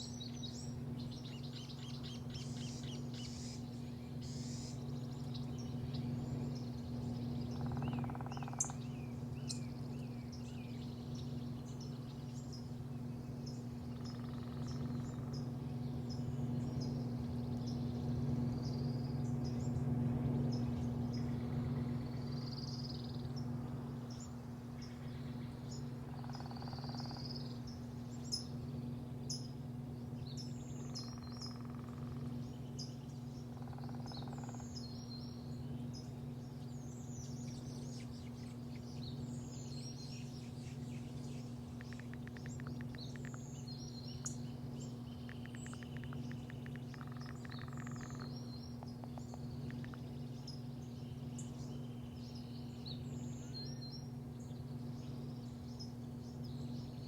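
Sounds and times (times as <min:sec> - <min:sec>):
low mechanical hum: 0:00.0 - 0:57.0
small birds chirping: 0:00.0 - 0:57.0.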